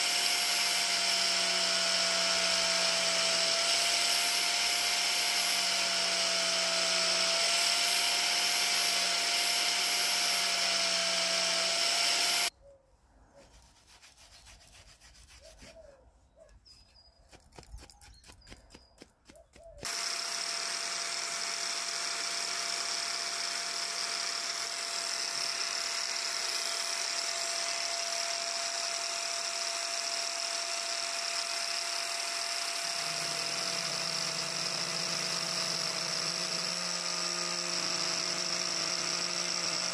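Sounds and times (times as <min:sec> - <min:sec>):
angle grinder on wood: 0:00.0 - 0:12.5, 0:19.8 - 0:39.9.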